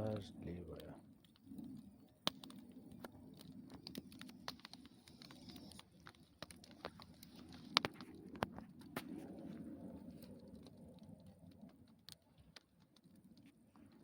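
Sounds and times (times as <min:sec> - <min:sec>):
campfire crackling: 0:00.0 - 0:14.0
sharp pops and snaps of fire: 0:00.0 - 0:14.0.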